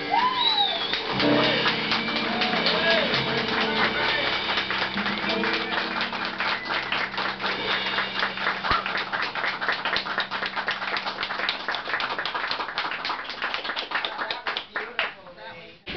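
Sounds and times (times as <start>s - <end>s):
people applauding: 0.0s - 15.2s.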